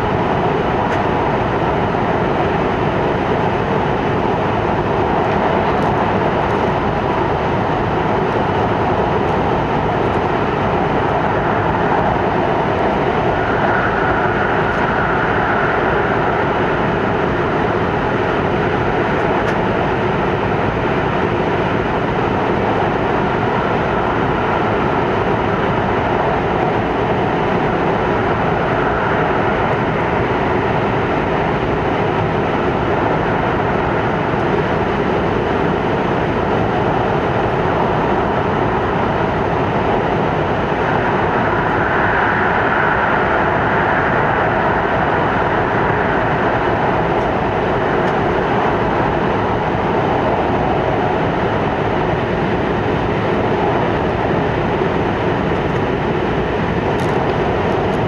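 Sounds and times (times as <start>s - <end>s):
tunnel air noise: 0.0s - 58.0s.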